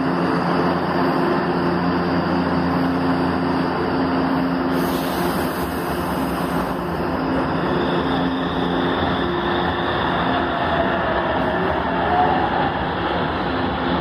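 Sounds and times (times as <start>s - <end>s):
electrical hum of train: 0.0s - 14.0s
train rumble: 0.0s - 14.0s.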